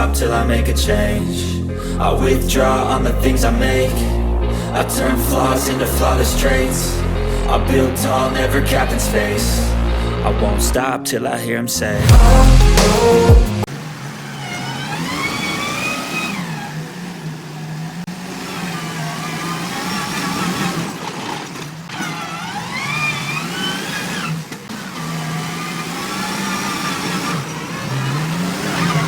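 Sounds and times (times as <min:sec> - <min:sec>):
tractor engine revving: 0:00.0 - 0:10.8, 0:11.8 - 0:29.0.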